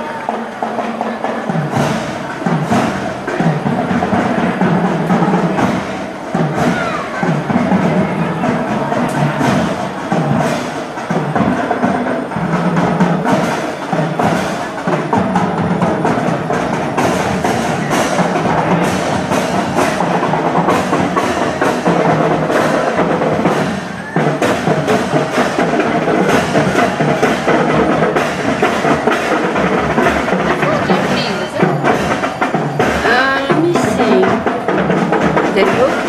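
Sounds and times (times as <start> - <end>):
parade music with drums: 0.0 - 36.0
wooden percussion strikes: 0.0 - 36.0.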